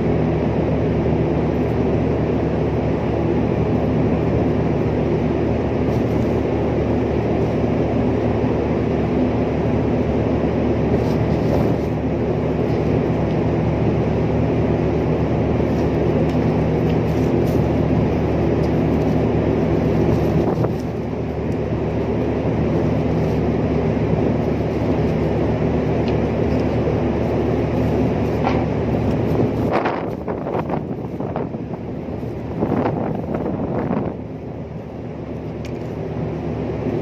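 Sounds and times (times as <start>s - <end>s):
ship machinery drone: 0.0s - 37.0s.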